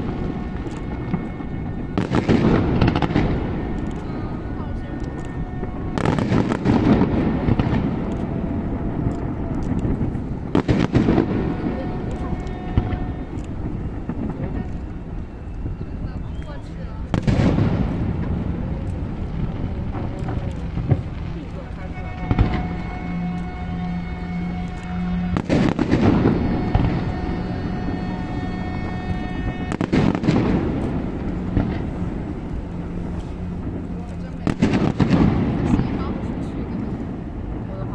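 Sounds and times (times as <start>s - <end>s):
fireworks bangs: 0.0s - 37.9s
low rolling rumble: 0.0s - 37.9s
music with long held notes: 0.0s - 37.9s.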